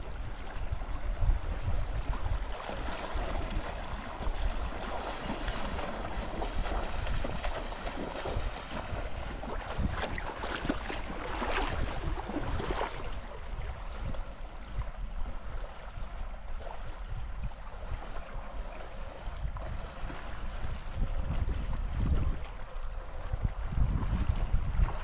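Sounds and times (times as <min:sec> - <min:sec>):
shallow stream water splashing: 0:00.0 - 0:25.0
wind buffeting microphone: 0:00.0 - 0:25.0.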